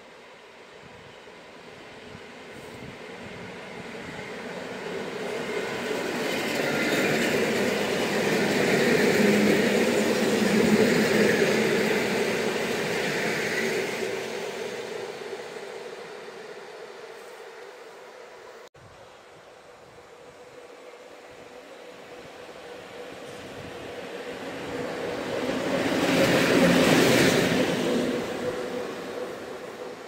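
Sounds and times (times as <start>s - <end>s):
electric train passing: 0.0s - 30.0s.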